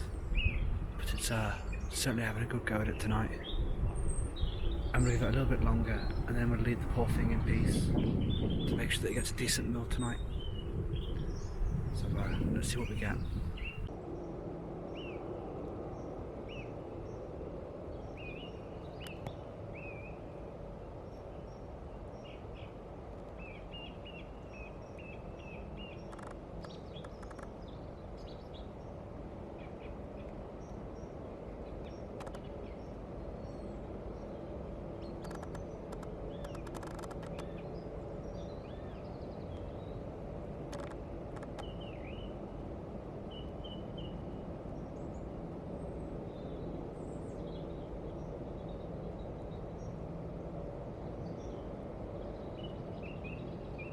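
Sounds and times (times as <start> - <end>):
small birds chirping: 0.0 - 13.9, 21.1 - 42.5, 43.2 - 53.9
wind: 0.0 - 53.9.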